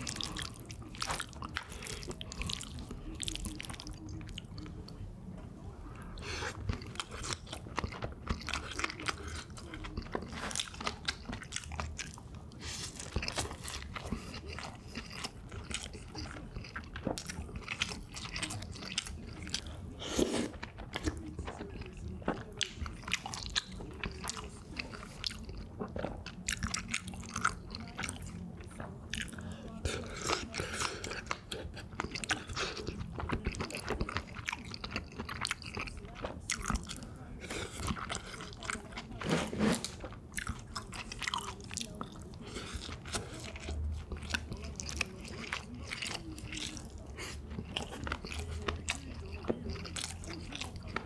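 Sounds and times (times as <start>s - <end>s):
chewing and crunching: 0.0s - 5.0s, 6.0s - 51.0s.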